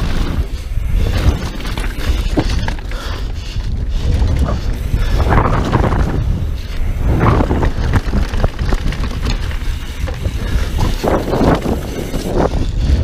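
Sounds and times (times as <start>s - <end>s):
bike tyres on dirt trail: 0.0s - 13.0s
wind buffeting microphone: 0.0s - 13.0s.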